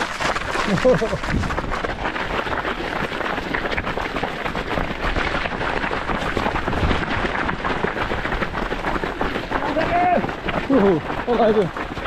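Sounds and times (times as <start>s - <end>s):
runner's footsteps: 0.0s - 12.0s.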